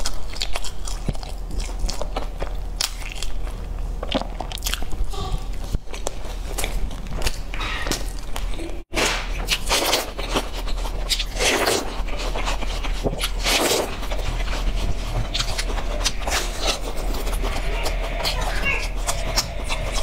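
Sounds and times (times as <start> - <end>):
crunchy chewing: 0.0 - 8.6, 9.3 - 20.0.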